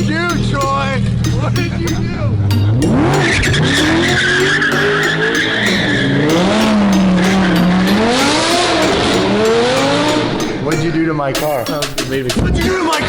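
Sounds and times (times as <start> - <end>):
car engine revving: 0.0 - 13.0
tyres squealing: 0.0 - 13.0.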